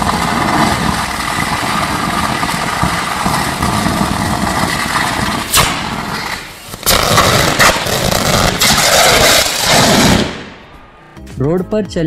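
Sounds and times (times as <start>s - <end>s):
electrical arcing crackling buzz: 0.0s - 10.7s
sharp electrical bangs: 0.0s - 11.1s.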